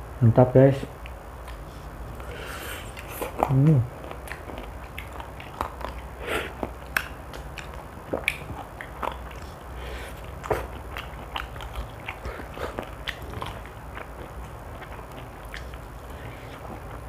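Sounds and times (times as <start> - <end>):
steady low hum: 0.0 - 17.0
biting and chewing chicken: 1.0 - 17.0.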